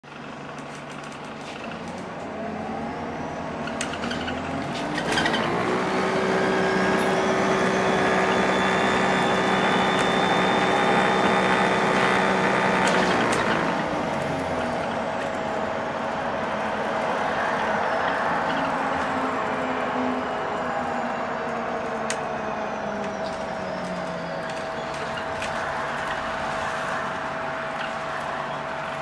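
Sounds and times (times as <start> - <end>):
bus drive whine: 0.0 - 29.0.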